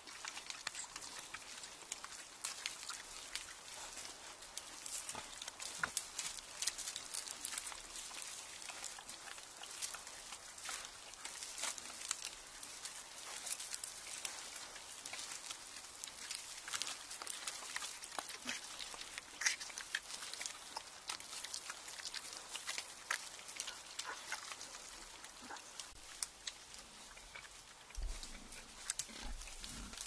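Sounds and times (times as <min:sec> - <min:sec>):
boar rooting in dry leaves: 0:00.0 - 0:30.0.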